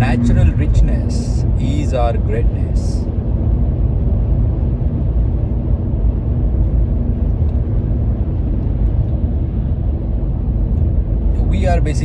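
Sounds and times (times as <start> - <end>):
deep rumbling noise: 0.0 - 12.0.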